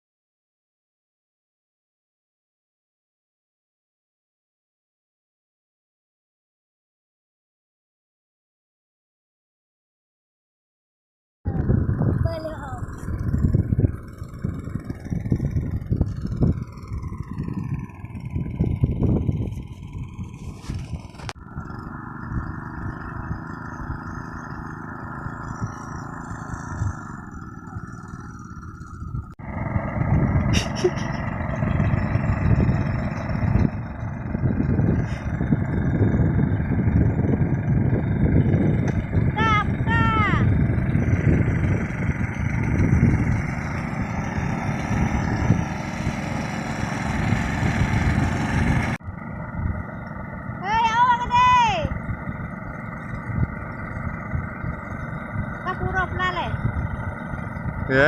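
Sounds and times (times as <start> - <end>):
diesel engine running: 11.5 - 58.0.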